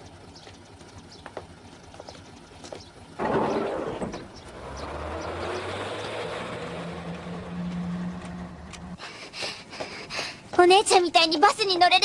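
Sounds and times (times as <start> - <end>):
bus engine humming: 0.0 - 10.6.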